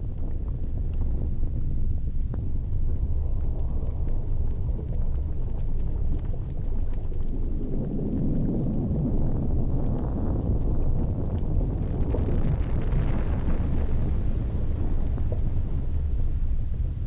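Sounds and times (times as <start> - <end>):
gondola cabin rumble and wind: 0.0 - 17.0.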